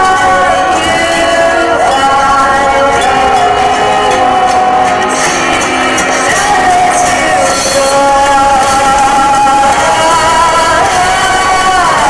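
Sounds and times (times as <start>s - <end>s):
song with long held notes: 0.0s - 12.0s.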